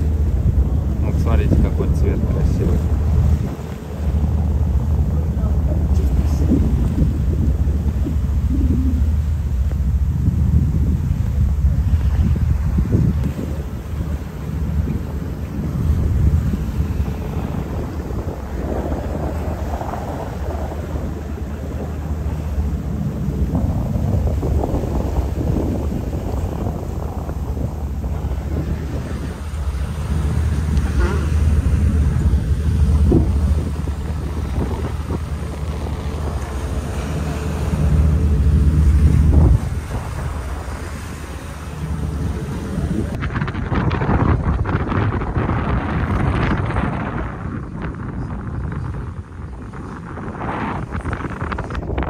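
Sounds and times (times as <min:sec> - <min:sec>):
low rumble of moving boat: 0:00.0 - 0:52.0
water rushing along hull: 0:00.0 - 0:52.0
wind buffeting microphone: 0:00.0 - 0:52.0.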